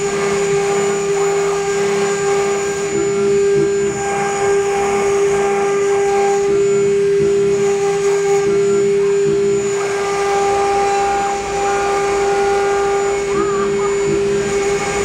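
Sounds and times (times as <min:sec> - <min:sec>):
router spindle high whine: 0:00.0 - 0:15.0.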